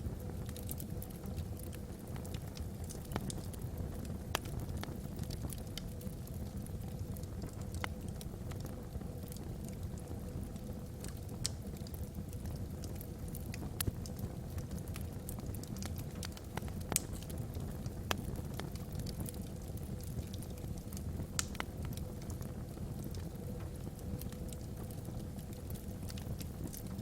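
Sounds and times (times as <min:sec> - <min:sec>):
wood logs burning and crackling: 0:00.0 - 0:27.0.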